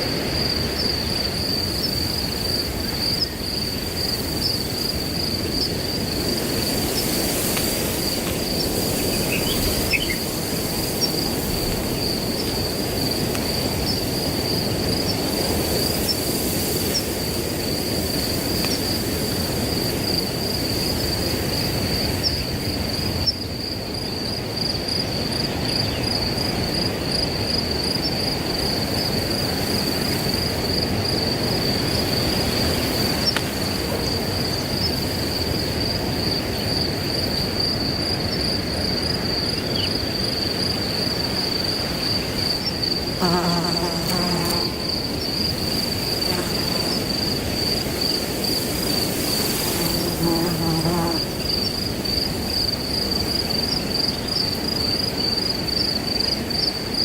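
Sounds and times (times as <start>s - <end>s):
crickets trilling: 0.0s - 57.0s
wind blowing through grass: 0.0s - 57.0s.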